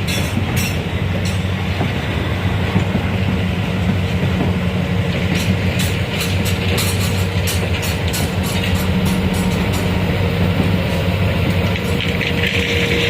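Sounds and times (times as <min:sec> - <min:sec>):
rail vehicle engine hum: 0:00.0 - 0:13.0.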